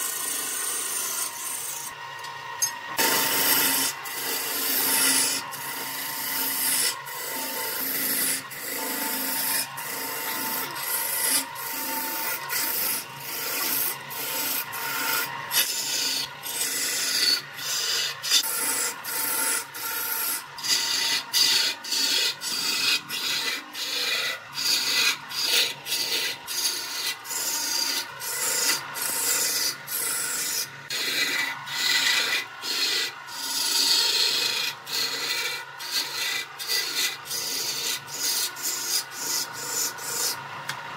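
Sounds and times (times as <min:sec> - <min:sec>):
chisel scraping wood on lathe: 0:00.0 - 0:01.9, 0:03.0 - 0:40.4.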